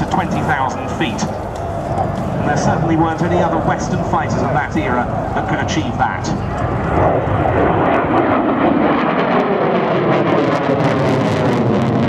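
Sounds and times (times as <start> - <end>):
jet flying overhead: 0.0 - 12.0.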